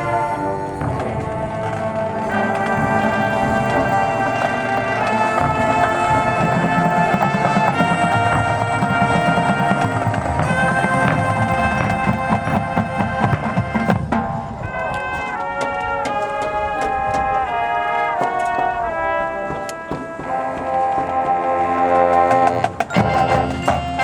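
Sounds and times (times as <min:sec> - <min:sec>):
brass chords: 0:00.0 - 0:24.0
low drums: 0:00.0 - 0:24.0.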